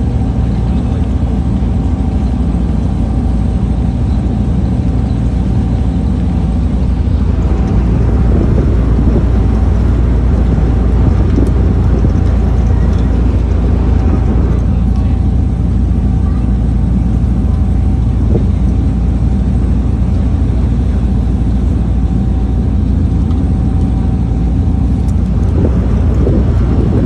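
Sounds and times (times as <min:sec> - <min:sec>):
ferry engine drone: 0:00.0 - 0:27.0
thin steady whine: 0:00.0 - 0:27.0
wind on microphone: 0:05.0 - 0:27.0.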